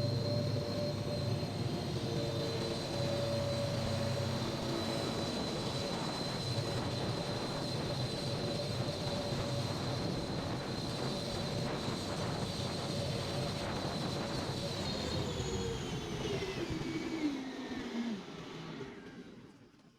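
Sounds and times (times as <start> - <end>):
machine whine: 0.0 - 19.6.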